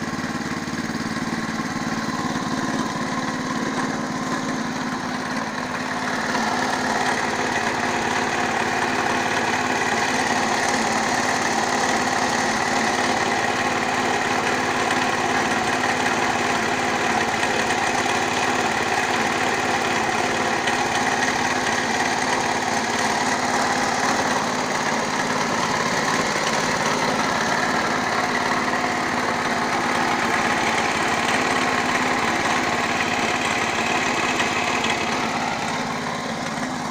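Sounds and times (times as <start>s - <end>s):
engine knock: 0.0s - 36.9s
tractor engine running: 0.0s - 36.9s.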